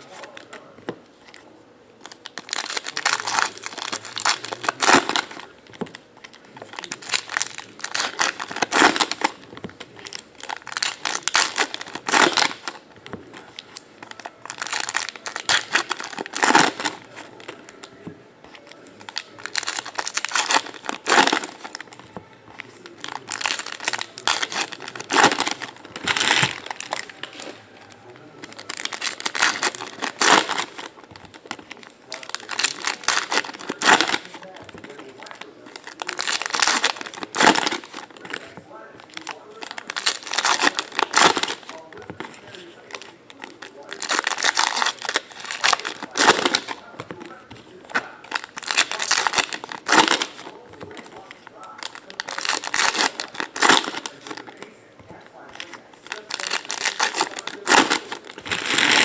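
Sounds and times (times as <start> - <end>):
foil wrappers tearing and crinkling: 2.0 - 5.5, 6.3 - 12.8, 13.4 - 18.0, 18.6 - 22.0, 22.6 - 46.9, 47.9 - 54.7, 55.5 - 59.0.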